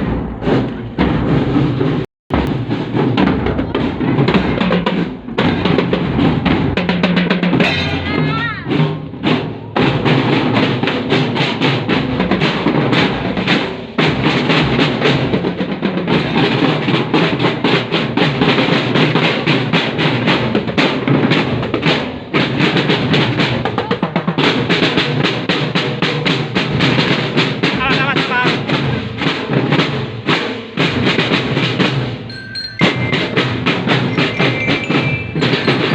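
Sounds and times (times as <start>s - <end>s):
snare and bass drums beating: 0.0s - 35.9s.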